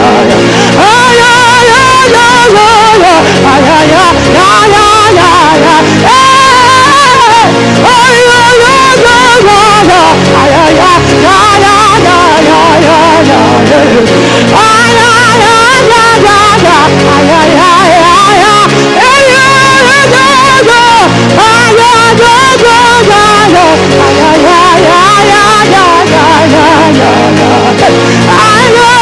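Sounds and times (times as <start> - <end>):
solo voice singing with vibrato: 0.0 - 29.0
sustained instrumental chords: 0.0 - 29.0.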